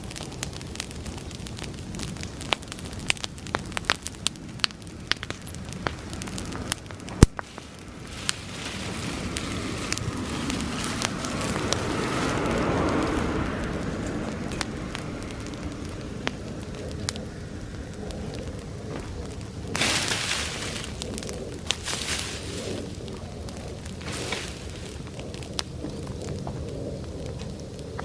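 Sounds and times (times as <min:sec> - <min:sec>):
bonfire crackling and popping: 0:00.0 - 0:28.0
rushing flames: 0:00.0 - 0:28.0.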